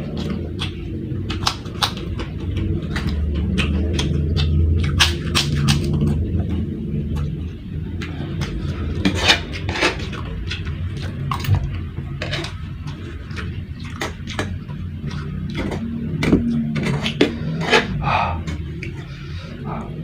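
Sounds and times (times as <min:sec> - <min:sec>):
chewing crunchy food: 0:00.0 - 0:20.0
steady low hum: 0:00.0 - 0:20.0.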